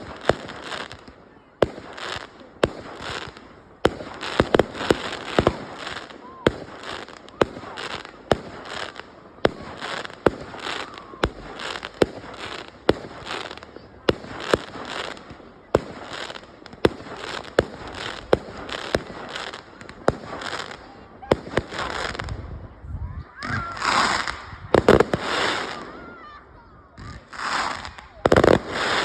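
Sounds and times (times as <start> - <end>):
fireworks bangs: 0.0 - 29.0
fireworks crackle and fizz: 0.0 - 29.0.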